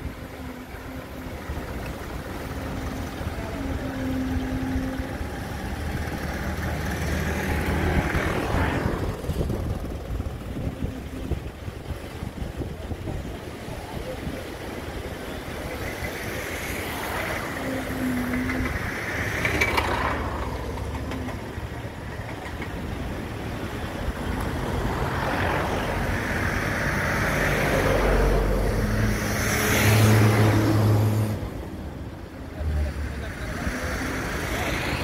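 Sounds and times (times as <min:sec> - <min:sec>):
diesel truck engines running: 0:00.0 - 0:35.0.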